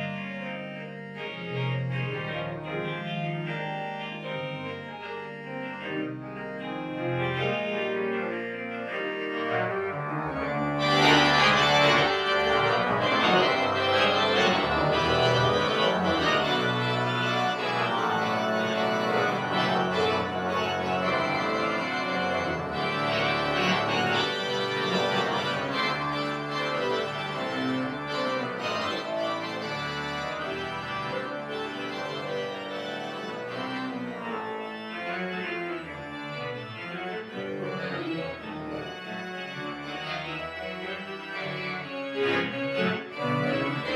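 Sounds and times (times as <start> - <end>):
pipe organ playing: 0.0 - 43.9.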